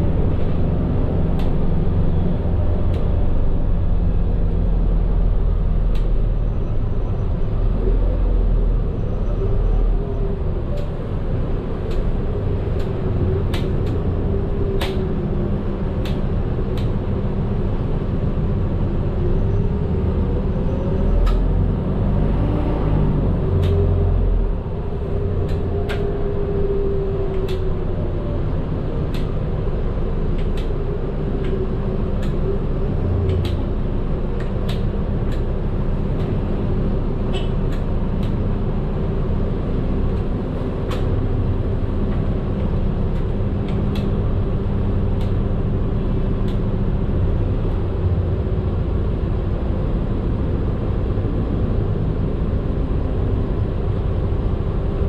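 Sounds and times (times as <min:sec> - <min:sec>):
bus engine and road drone: 0:00.0 - 0:55.0.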